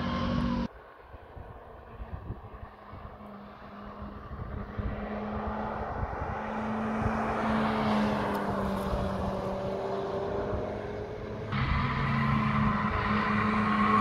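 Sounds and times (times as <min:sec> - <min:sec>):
race car engine passing: 0:00.0 - 0:14.0.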